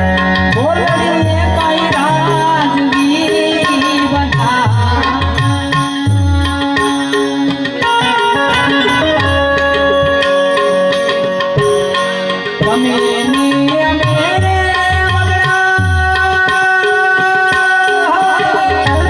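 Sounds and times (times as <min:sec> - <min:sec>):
harmonium long notes: 0:00.0 - 0:19.0
tabla: 0:00.0 - 0:19.0.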